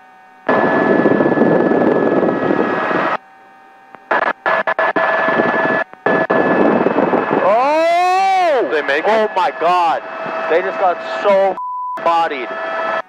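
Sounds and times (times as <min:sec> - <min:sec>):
helicopter engine and rotor noise: 0:00.0 - 0:13.0
steady high tone: 0:00.5 - 0:13.0.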